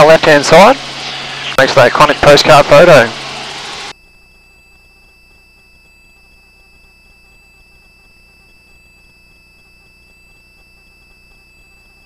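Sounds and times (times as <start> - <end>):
high-pitched electronic tone: 0.0 - 12.0.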